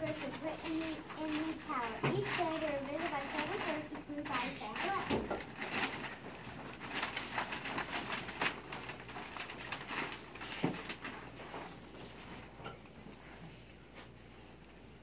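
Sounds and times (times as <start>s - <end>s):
costume rustling: 0.0s - 15.0s.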